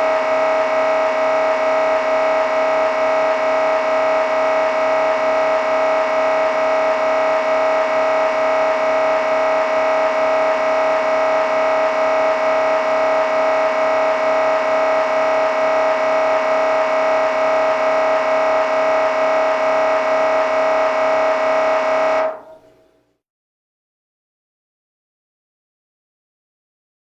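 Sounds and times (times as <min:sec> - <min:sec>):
mri scanner pulsing buzz: 0:00.0 - 0:22.6.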